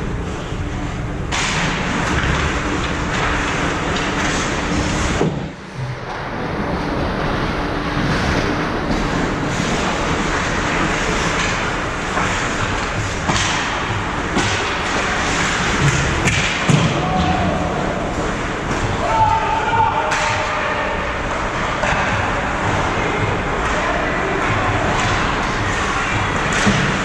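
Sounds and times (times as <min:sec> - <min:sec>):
skating and arena noise: 0:00.0 - 0:27.0.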